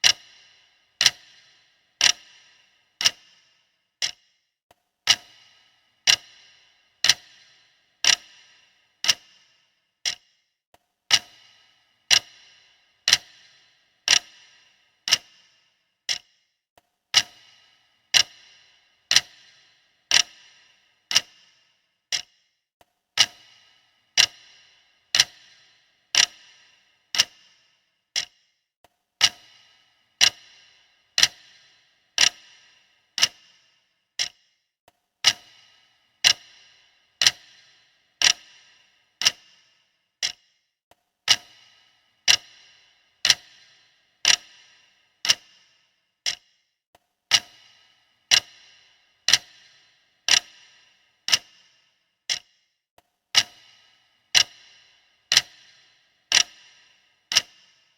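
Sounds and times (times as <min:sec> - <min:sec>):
clock ticking: 0:00.0 - 0:22.6, 0:23.2 - 0:28.6, 0:29.2 - 0:34.6, 0:35.2 - 0:40.6, 0:41.2 - 0:46.7, 0:47.3 - 0:57.9.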